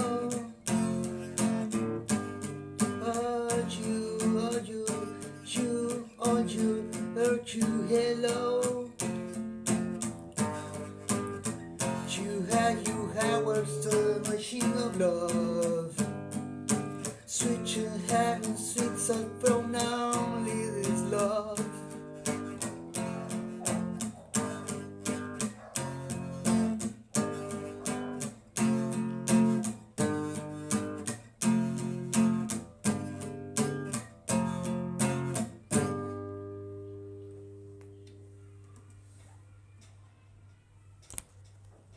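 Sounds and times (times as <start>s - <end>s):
acoustic guitar strumming chords: 0.0s - 38.6s.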